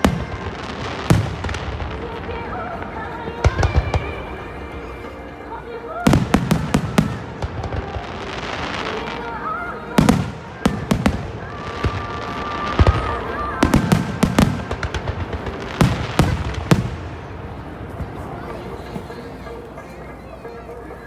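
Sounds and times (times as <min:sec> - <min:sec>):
fireworks bursting with sharp bangs: 0:00.0 - 0:20.2
fireworks crackling: 0:00.0 - 0:21.0.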